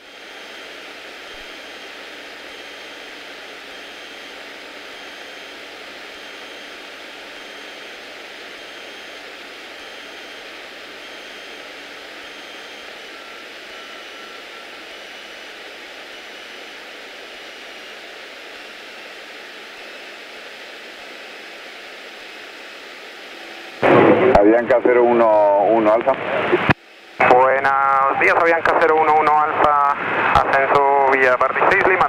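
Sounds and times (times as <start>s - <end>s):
plane engine and propeller drone: 0.0s - 32.0s.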